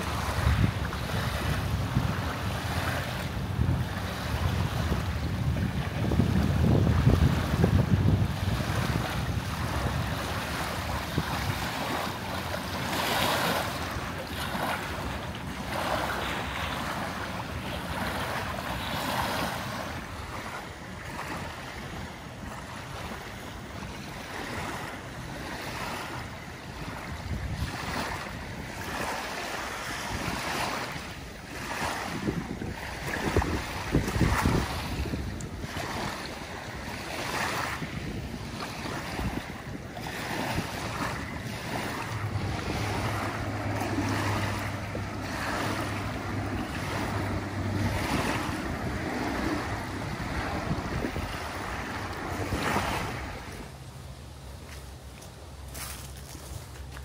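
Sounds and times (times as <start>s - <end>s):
small waves lapping on shore: 0.0s - 57.0s
wind rumbling on microphone: 0.0s - 57.0s.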